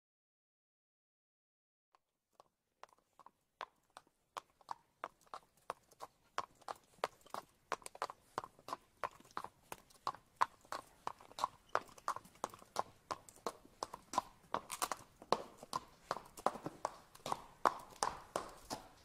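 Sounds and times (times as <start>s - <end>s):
hooves clip-clopping on pavement: 2.4s - 19.0s.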